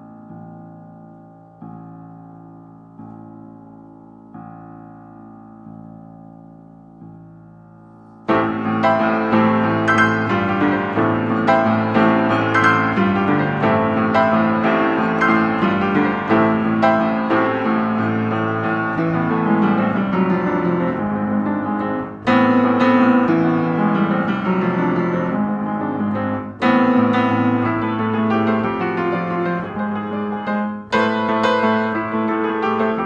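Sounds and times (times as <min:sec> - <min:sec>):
piano chords: 0:00.0 - 0:33.0.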